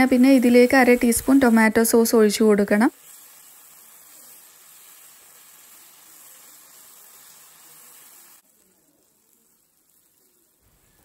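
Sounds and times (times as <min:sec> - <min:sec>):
chicken sizzling in pan: 0:00.0 - 0:11.0.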